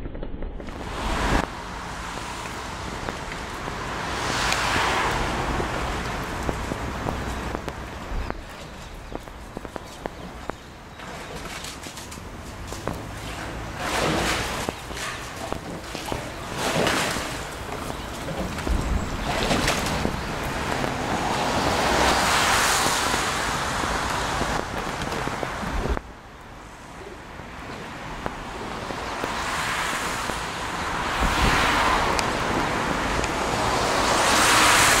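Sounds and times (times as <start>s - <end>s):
wind buffeting microphone: 0.0s - 11.0s, 14.4s - 26.3s, 28.0s - 35.0s.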